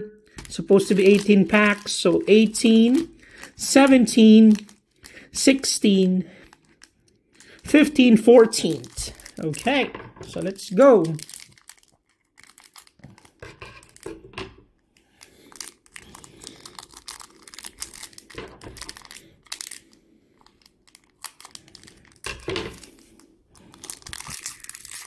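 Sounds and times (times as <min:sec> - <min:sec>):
wrapper tearing and crinkling: 0:00.3 - 0:05.2, 0:06.3 - 0:14.2, 0:15.2 - 0:25.0.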